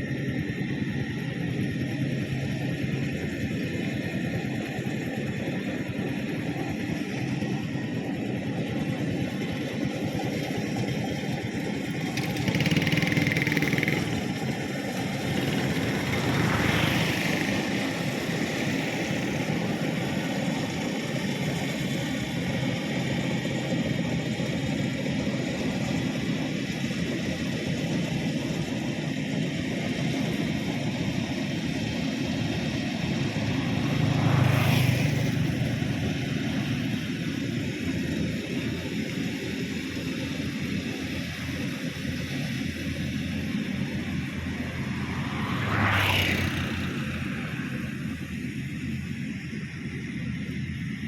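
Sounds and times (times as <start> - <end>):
combine harvester running: 0.0 - 51.0.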